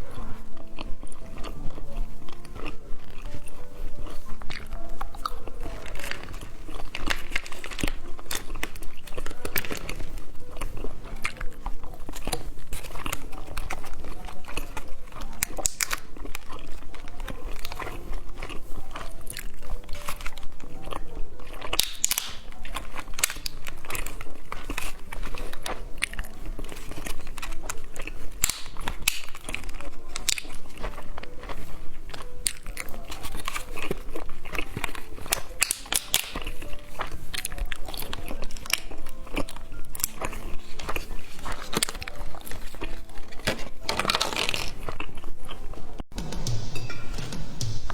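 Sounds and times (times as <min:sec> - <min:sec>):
biting and chewing candy: 0:00.0 - 0:46.1.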